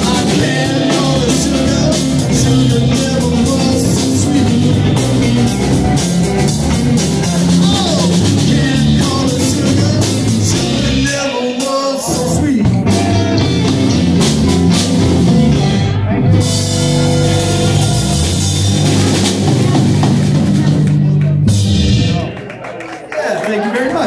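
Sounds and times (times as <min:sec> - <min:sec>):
drum kit: 0:00.0 - 0:22.8
electric guitars: 0:00.0 - 0:22.8
bass: 0:00.0 - 0:23.1.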